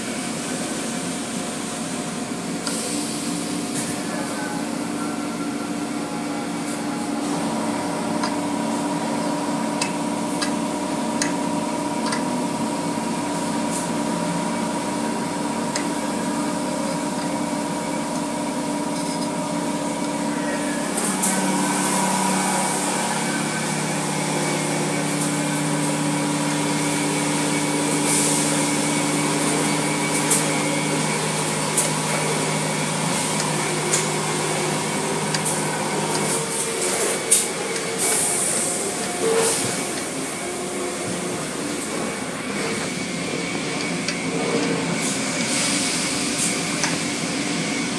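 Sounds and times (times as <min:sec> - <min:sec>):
motors and pumps humming: 0:00.0 - 0:47.9.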